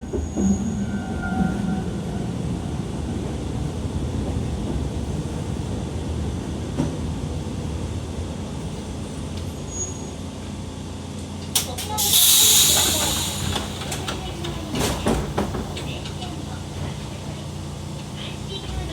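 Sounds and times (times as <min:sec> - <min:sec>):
electric train rumbling on rails: 0:00.0 - 0:18.9.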